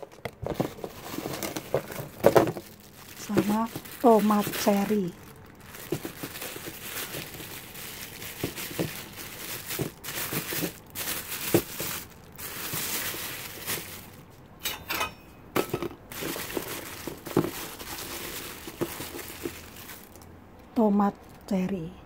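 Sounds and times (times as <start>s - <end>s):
plastic bag crinkling: 0.0s - 14.6s, 15.6s - 21.6s.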